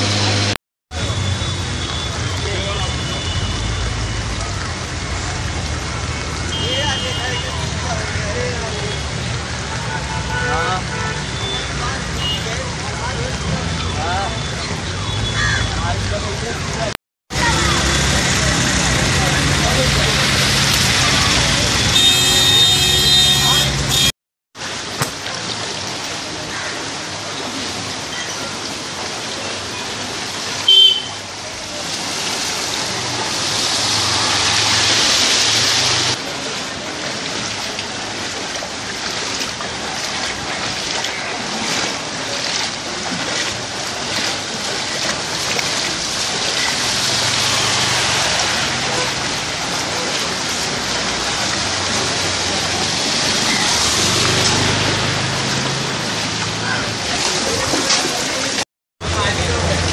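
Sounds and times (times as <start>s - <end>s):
floodwater sloshing and splashing: 0.0s - 59.9s
rush of moving water: 0.0s - 59.9s.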